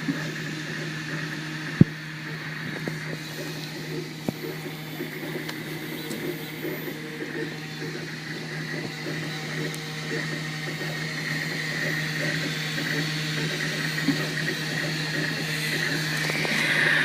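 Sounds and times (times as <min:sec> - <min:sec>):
printer humming: 0:00.0 - 0:17.0
stepper motors whining: 0:00.0 - 0:17.0.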